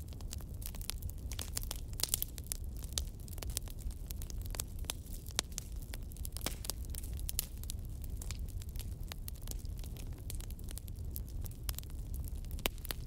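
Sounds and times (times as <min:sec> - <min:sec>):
burning logs crackling: 0:00.0 - 0:13.0
low rumble of flames: 0:00.0 - 0:13.0.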